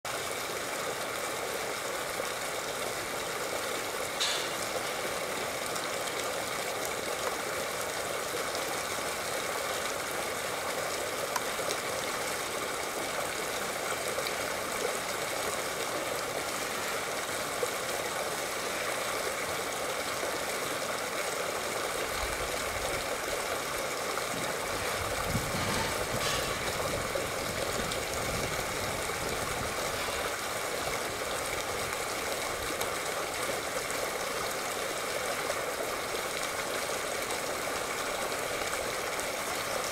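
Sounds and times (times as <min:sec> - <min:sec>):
flowing water rushing: 0:00.1 - 0:39.9.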